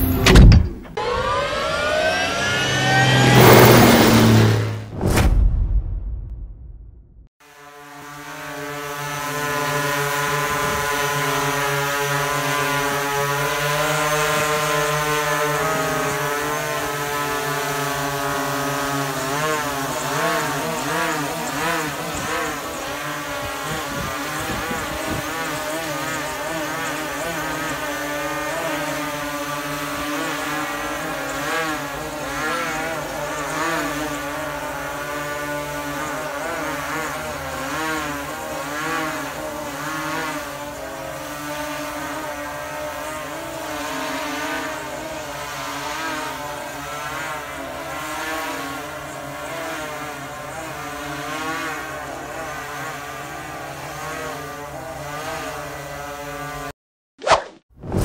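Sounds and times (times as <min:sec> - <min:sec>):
drone propeller droning: 0:00.0 - 0:05.0, 0:07.5 - 0:56.7.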